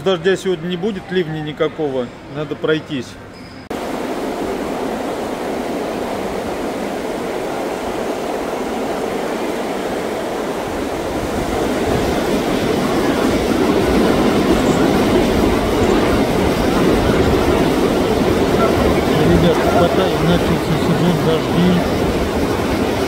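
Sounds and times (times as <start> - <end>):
heavy rain falling: 3.7 - 23.0.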